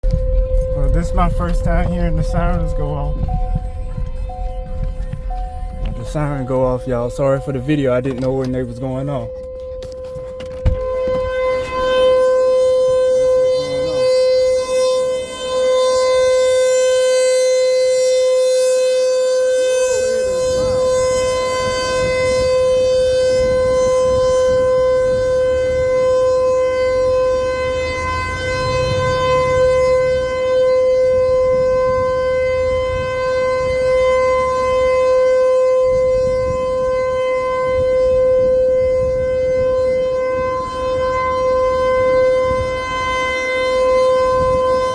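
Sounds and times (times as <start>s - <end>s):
warning siren steady tone: 0.0s - 44.9s.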